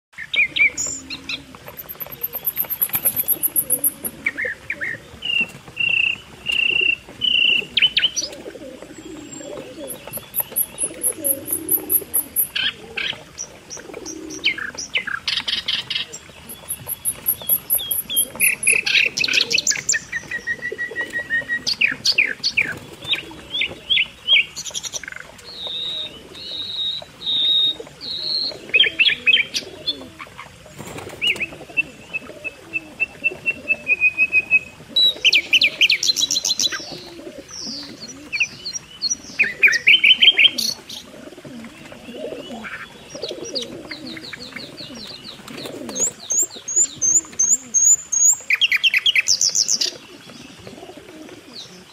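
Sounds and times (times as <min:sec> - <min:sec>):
pigeons cooing: 0:00.2 - 0:51.9.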